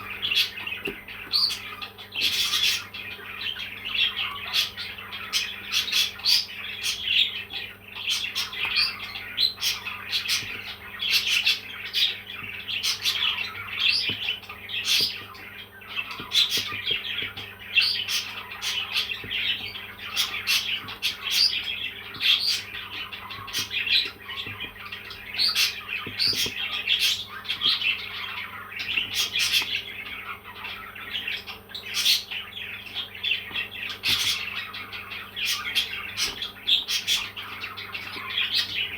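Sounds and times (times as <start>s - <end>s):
parrot chirping and squawking: 0.0s - 38.9s.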